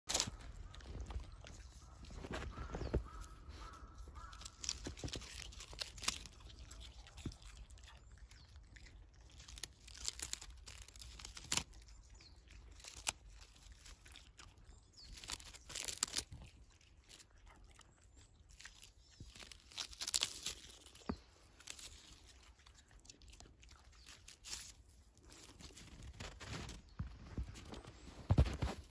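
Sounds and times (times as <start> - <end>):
dog chewing a dry stalk: 0.1 - 26.4.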